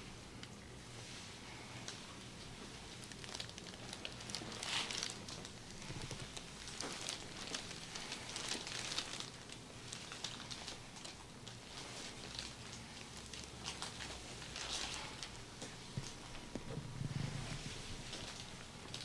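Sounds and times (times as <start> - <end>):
soft rustling with crackles: 0.0 - 19.0.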